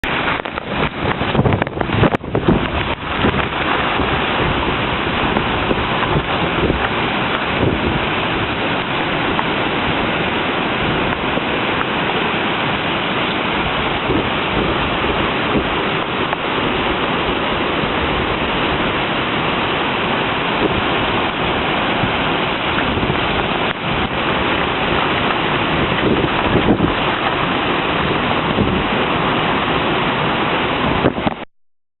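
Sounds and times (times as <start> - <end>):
wind buffeting microphone: 0.0 - 31.4
wind and rain rushing: 0.0 - 31.5.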